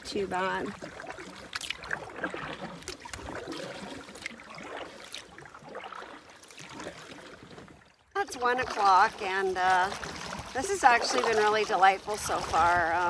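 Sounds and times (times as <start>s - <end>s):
paddle pulling through water: 0.0s - 13.0s
water splashing and dripping: 0.0s - 13.0s
water washing: 0.0s - 13.0s.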